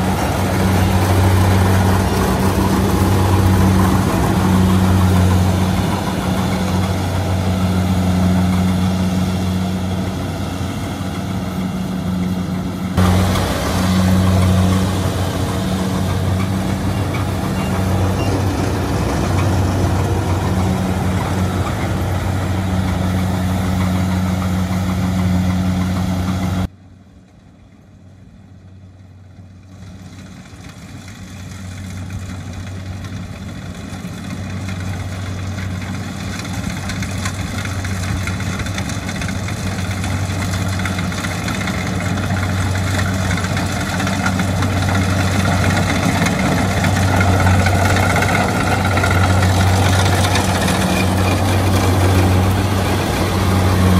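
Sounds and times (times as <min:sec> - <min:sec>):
combine harvester engine running: 0:00.0 - 0:26.8, 0:27.7 - 0:53.9.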